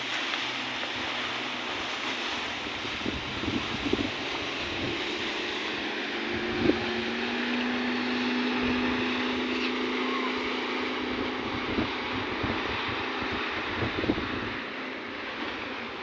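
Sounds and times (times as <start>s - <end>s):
low engine drone: 0.0s - 16.0s
water rushing past boat: 0.0s - 16.0s
wind buffeting microphone: 0.0s - 16.0s.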